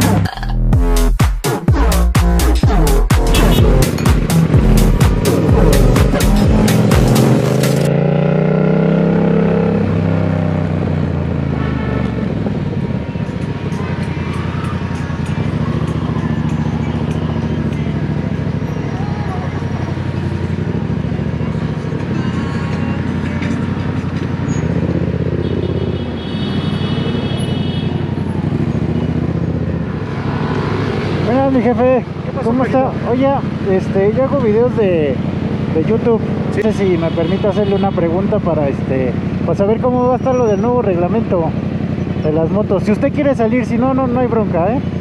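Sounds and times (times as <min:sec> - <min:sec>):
road noise: 0:00.0 - 0:45.0
motorcycle engine running: 0:01.7 - 0:45.0.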